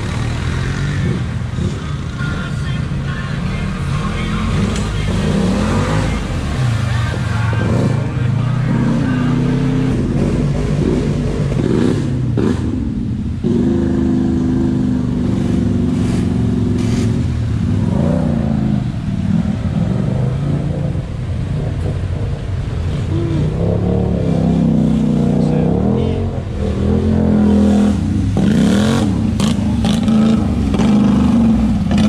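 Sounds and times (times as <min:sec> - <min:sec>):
off-road vehicle engines revving: 0:00.0 - 0:32.0.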